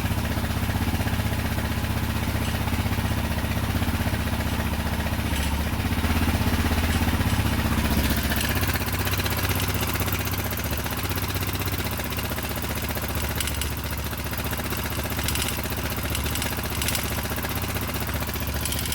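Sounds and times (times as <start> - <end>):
engine ticking: 0.0 - 18.9
motorcycle engine idling: 0.0 - 18.9.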